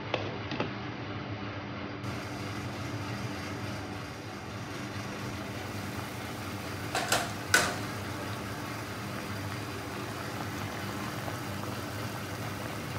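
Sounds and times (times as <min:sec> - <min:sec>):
soup boiling and bubbling: 0:02.0 - 0:12.9.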